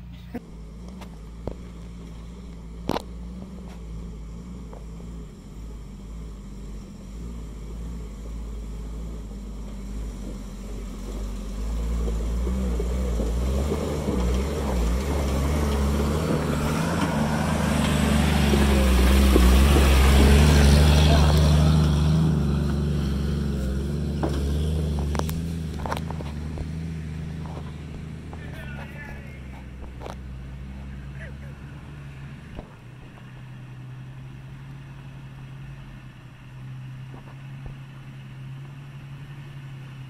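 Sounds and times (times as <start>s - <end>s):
off-road vehicle engine crawling: 0.0s - 40.0s.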